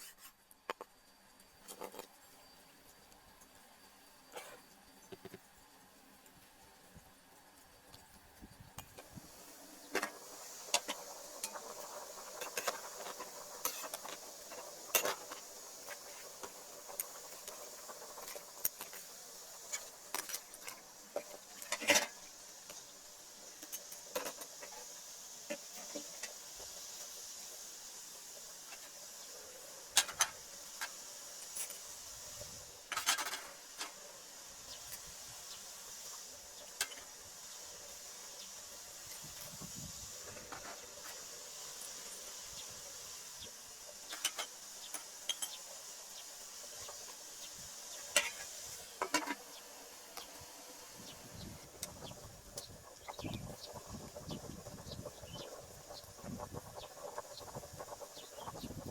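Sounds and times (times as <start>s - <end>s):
food sizzling in a pan: 1.6s - 58.9s.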